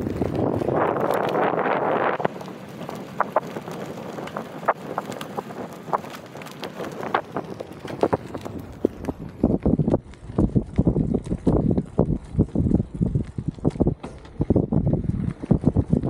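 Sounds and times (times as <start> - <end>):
bicycle tyres rolling on sandy trail: 0.0 - 16.0
bike clicks and rattles: 0.0 - 16.0
wind buffeting microphone: 0.0 - 16.0.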